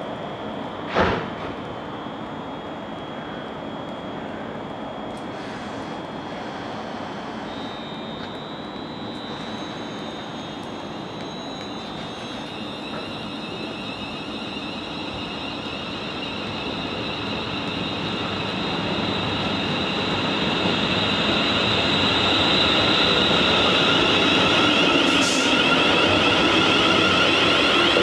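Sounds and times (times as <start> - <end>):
train traction whine: 0.0 - 28.0
train wheel rumble on rails: 5.1 - 28.0.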